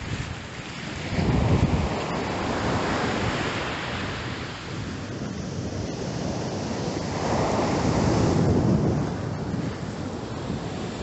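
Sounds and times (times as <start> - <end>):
surf washing on a beach: 0.0 - 11.0
wind buffeting microphone: 0.0 - 11.0.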